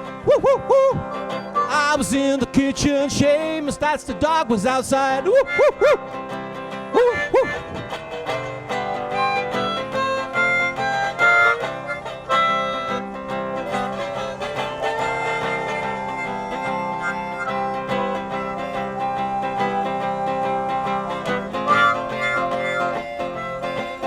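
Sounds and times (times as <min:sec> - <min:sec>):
plucked guitar music: 0:00.0 - 0:24.0.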